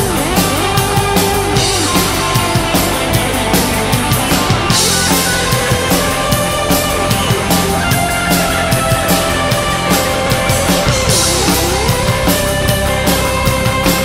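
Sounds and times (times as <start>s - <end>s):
drum kit fast beat: 0.0s - 14.0s
rock band playing: 0.0s - 14.0s.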